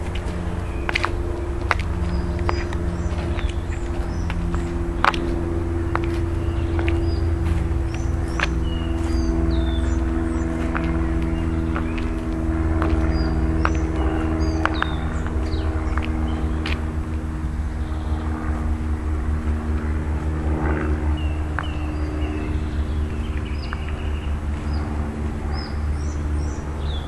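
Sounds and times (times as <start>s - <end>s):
low drone and rumble: 0.0s - 27.0s
songbirds chirping: 0.0s - 27.0s.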